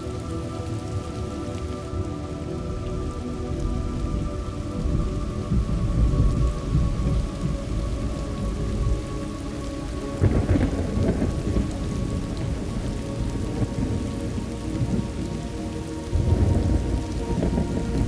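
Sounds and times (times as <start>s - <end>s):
steady rain falling: 0.0s - 18.0s
low rolls of thunder: 2.7s - 9.2s, 9.8s - 18.0s.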